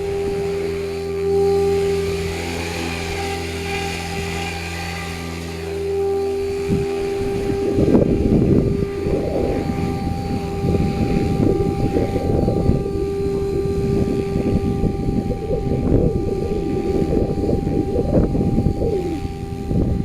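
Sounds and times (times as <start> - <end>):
rc helicopter motor whine: 0.0 - 20.0
wind buffeting microphone: 0.0 - 20.0.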